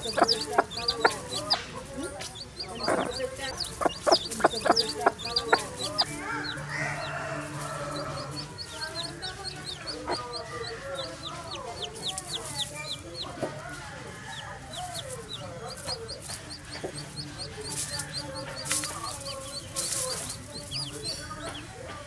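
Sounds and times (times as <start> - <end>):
chicks peeping: 0.0 - 22.0
hen clucking: 0.0 - 22.0.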